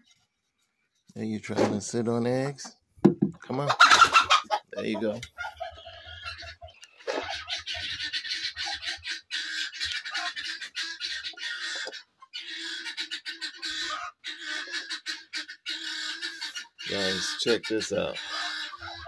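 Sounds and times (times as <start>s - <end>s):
chickens squawking and clucking: 3.4s - 19.0s.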